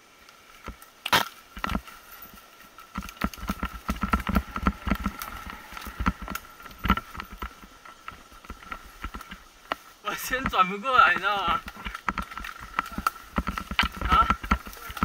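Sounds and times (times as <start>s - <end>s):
mountain bike rattling and knocking: 1.5s - 15.0s.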